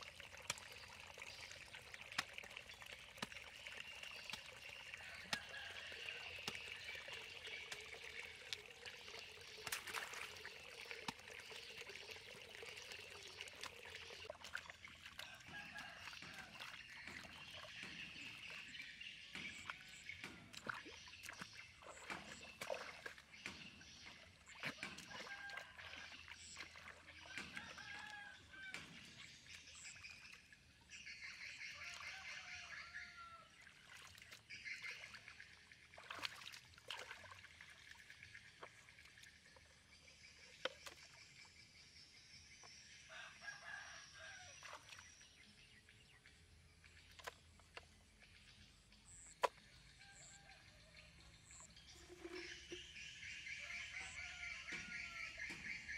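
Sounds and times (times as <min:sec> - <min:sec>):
muddy water trickling and pouring: 0:00.0 - 0:55.9
water splashes: 0:00.0 - 0:55.9.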